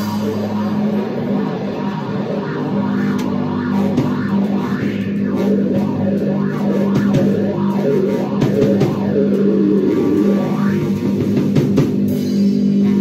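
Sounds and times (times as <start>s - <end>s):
drum and cymbal hits: 0.0s - 13.0s
noisy electric guitar: 0.0s - 13.0s.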